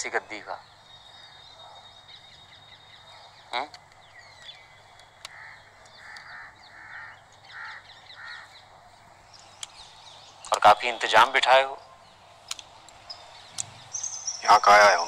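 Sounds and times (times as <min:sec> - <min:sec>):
birds chirping: 0:00.0 - 0:15.0
short harsh bird calls: 0:00.0 - 0:15.0.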